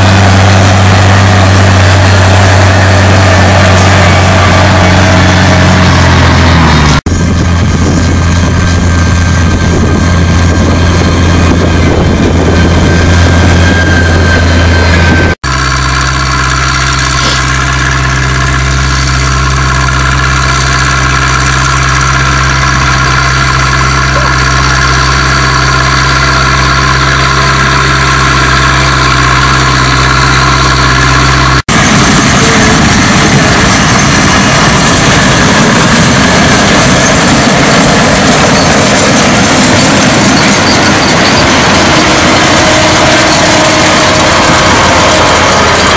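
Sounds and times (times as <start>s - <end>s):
old tractor diesel at low speed: 0.0s - 45.9s
tractor diesel engine running: 0.0s - 45.9s.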